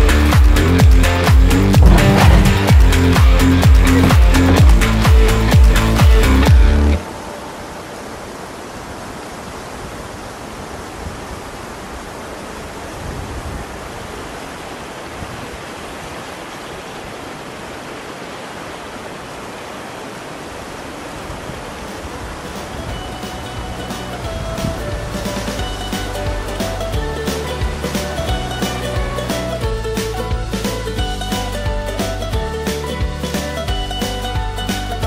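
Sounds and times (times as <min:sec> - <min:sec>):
whitewater rapids rushing: 0:00.7 - 0:33.0.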